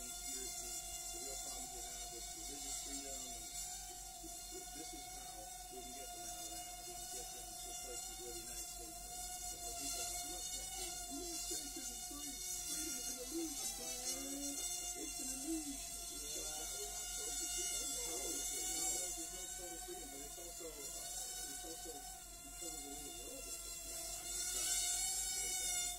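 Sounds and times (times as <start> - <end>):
drone motors buzzing: 0.0 - 25.9.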